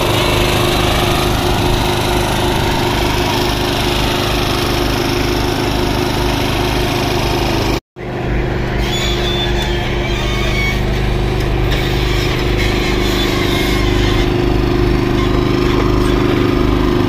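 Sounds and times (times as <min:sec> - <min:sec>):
paver engine running: 0:00.0 - 0:17.0.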